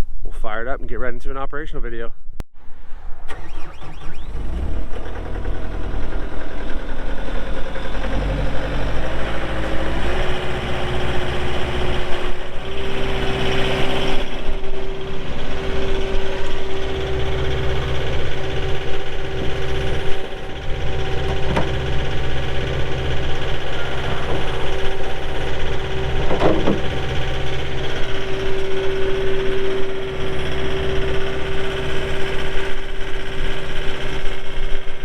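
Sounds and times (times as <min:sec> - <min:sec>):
diesel engine revving up: 0:02.7 - 0:35.0.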